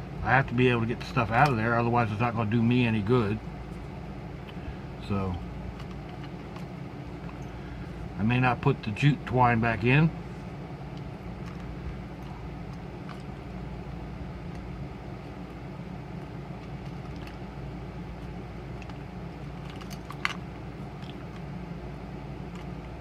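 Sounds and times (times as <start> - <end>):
steady low background hum: 0.0 - 23.0.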